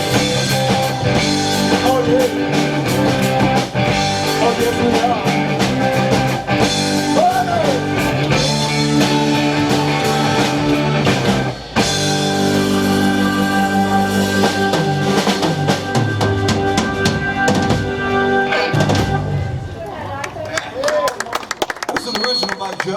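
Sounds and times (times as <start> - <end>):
live rock band playing: 0.0 - 19.8.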